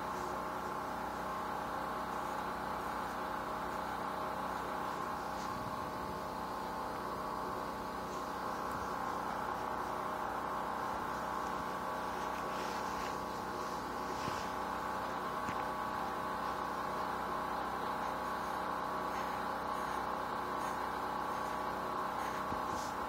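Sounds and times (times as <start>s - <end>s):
steady hum of fixed tones: 0.0s - 23.0s.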